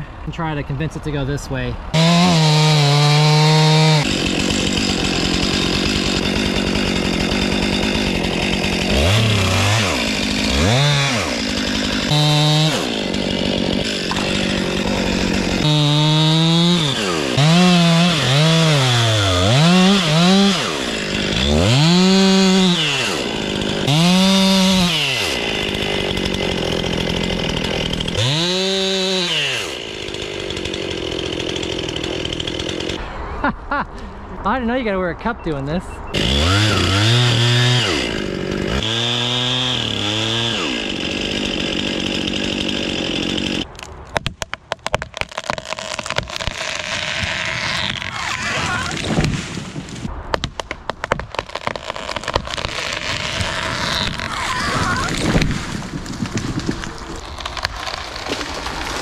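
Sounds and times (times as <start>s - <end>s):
chainsaw cutting wood: 1.9s - 33.0s, 36.1s - 59.0s.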